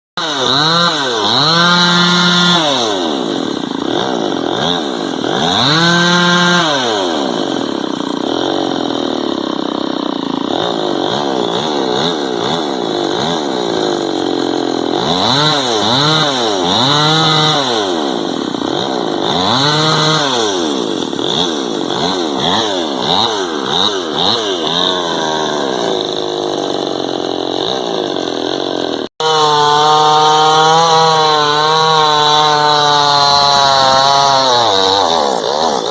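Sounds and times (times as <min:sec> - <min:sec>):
chainsaw engine revving: 0:00.2 - 0:35.9.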